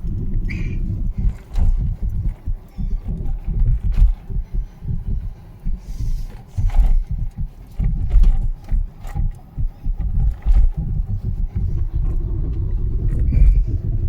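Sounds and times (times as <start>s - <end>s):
car road and wind rumble: 0.0s - 14.0s.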